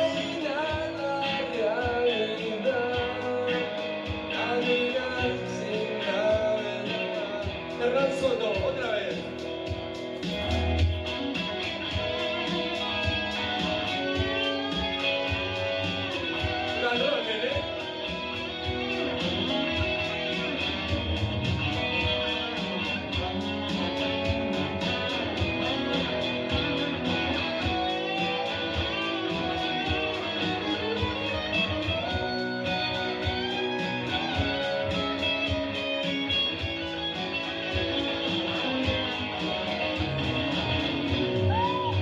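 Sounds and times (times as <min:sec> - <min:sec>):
drum beat: 0:00.0 - 0:42.0
electric guitar solo: 0:00.0 - 0:42.0.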